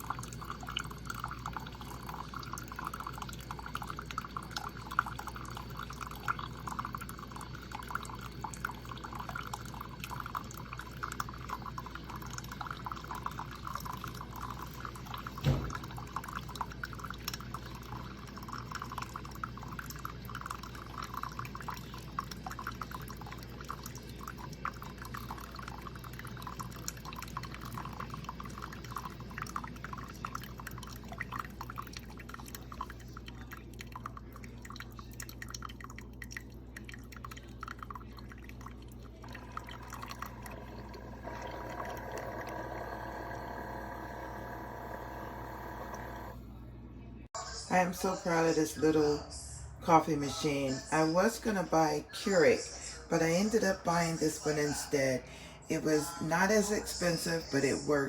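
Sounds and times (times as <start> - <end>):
coffee maker hum: 0.0 - 49.2
coffee pouring and dripping: 0.0 - 49.2, 49.8 - 58.0.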